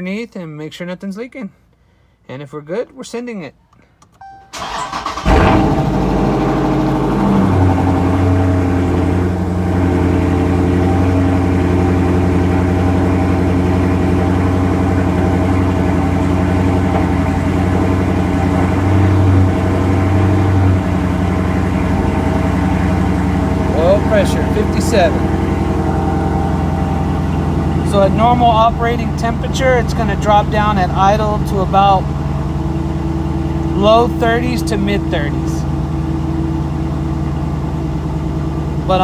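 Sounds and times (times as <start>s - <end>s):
car engine idling: 4.5s - 39.0s.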